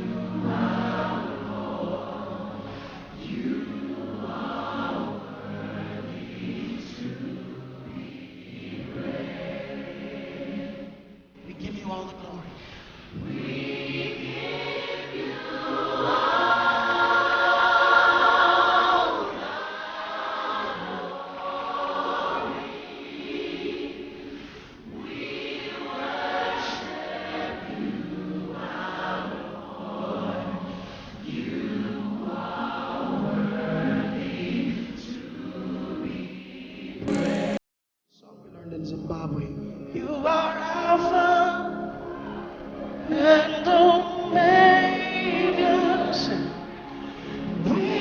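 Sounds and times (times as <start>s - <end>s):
choir singing: 0.0s - 11.2s, 13.0s - 37.6s, 40.2s - 48.0s.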